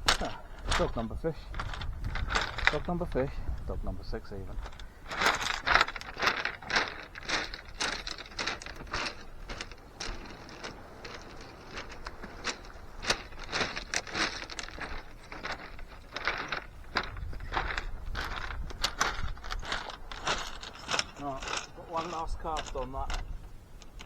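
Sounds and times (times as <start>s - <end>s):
footsteps crunching on shingle: 0.0s - 24.0s.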